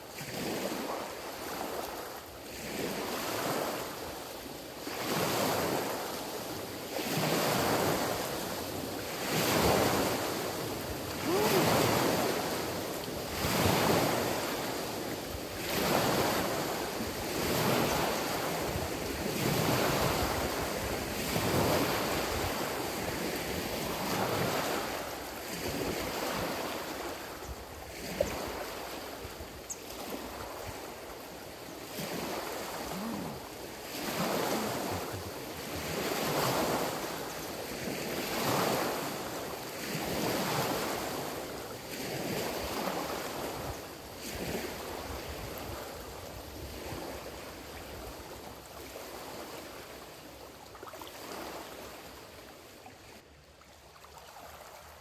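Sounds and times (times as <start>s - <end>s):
small waves washing on shore: 0.0s - 55.0s.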